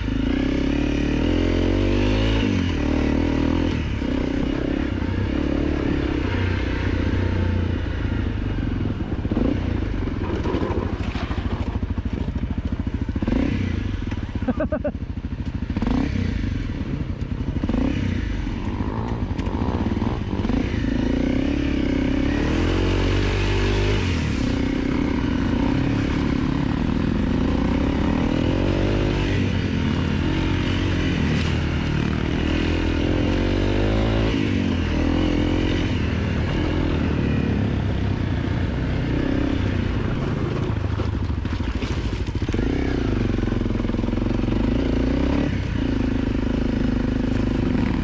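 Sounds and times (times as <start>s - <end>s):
dirt bike engine revving: 0.0s - 12.3s, 12.9s - 14.9s, 15.7s - 40.8s, 42.4s - 48.0s.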